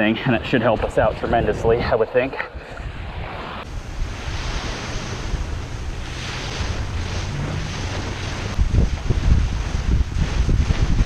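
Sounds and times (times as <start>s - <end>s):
wind buffeting microphone: 0.0s - 11.0s
surf breaking on shore: 0.5s - 11.0s.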